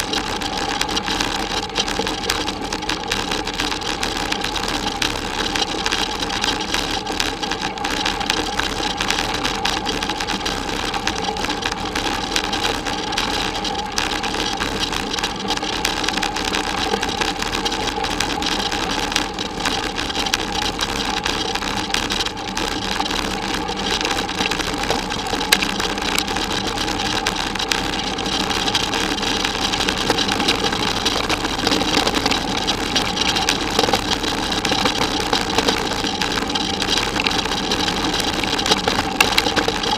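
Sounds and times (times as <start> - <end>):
bicycle whirring and rattling: 0.0 - 39.9.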